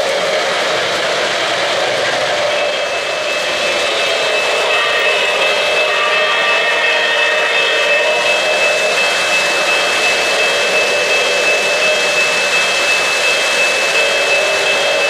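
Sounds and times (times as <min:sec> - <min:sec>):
high-pitched whine: 0:00.0 - 0:15.0
model train wheels rumbling: 0:00.0 - 0:15.0.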